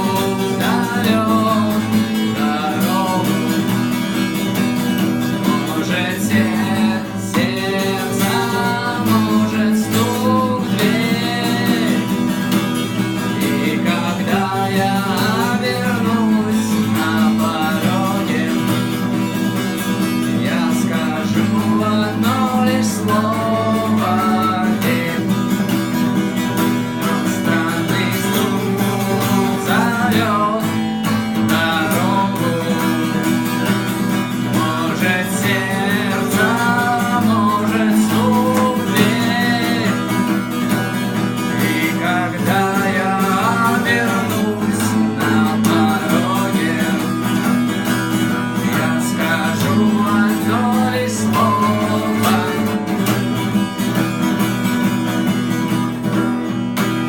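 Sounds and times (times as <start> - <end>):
guitar melody with bending notes: 0.0 - 57.0
low guitar accompaniment: 0.0 - 57.0.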